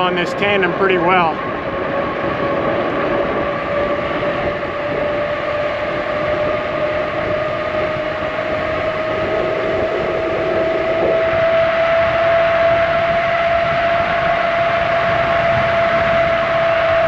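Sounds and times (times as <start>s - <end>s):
tyres humming on pavement: 0.0s - 17.0s
wind rushing over microphone: 0.0s - 17.0s.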